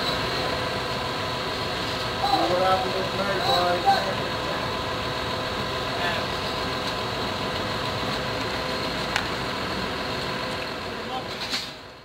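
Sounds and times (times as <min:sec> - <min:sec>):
heavy machinery engine droning: 0:00.0 - 0:12.0.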